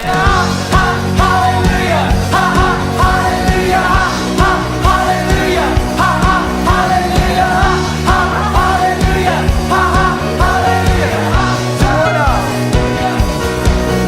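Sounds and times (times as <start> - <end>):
song with vocals drums and bass: 0.0 - 14.0.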